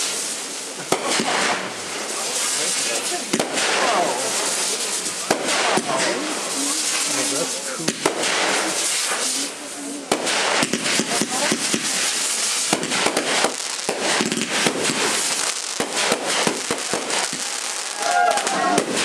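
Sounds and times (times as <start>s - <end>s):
fireworks cracking and popping: 0.0s - 19.0s.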